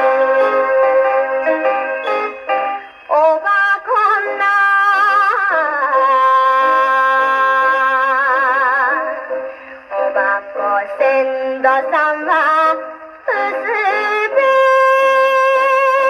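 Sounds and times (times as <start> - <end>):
woman singing on old record: 0.0 - 1.2, 3.0 - 16.0.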